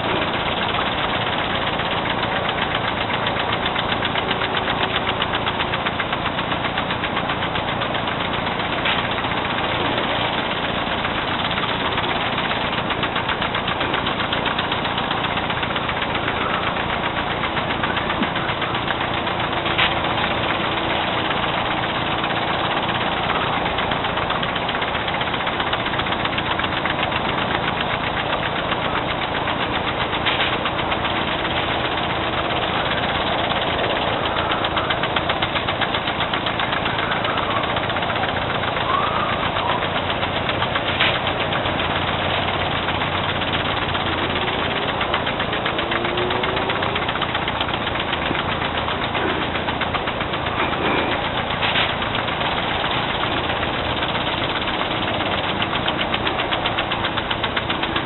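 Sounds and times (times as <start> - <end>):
lawn sprinklers ticking and hissing: 0.0 - 58.0.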